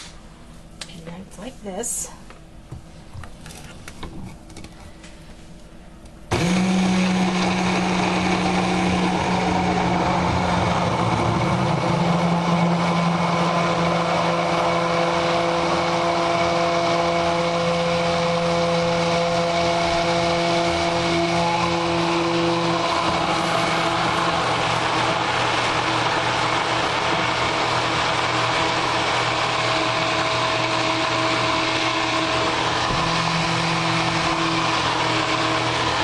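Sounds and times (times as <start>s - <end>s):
immersion blender motor hum: 6.3s - 36.0s.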